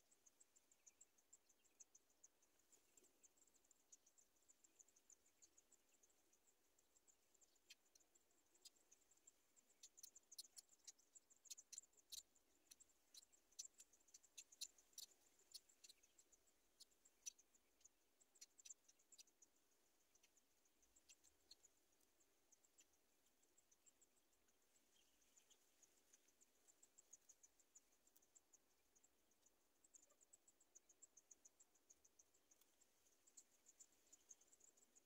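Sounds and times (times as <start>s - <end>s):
scattered high ticks: 0.0s - 35.0s.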